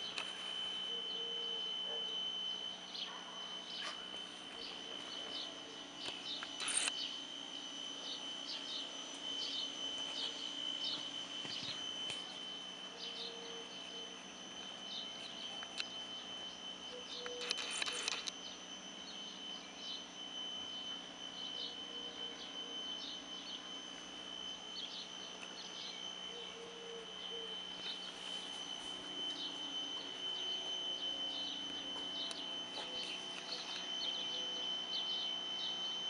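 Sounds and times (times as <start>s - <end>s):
steady high-pitched whine: 0.0s - 36.0s.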